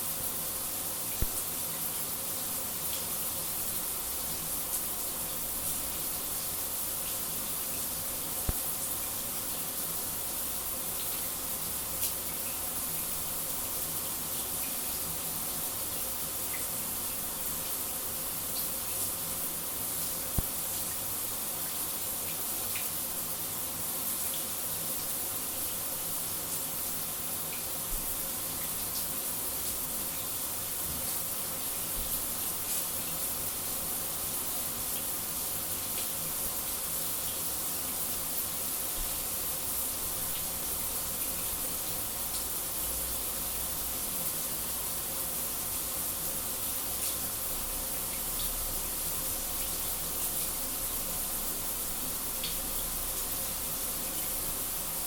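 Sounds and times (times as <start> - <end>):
shower running: 0.0 - 55.0.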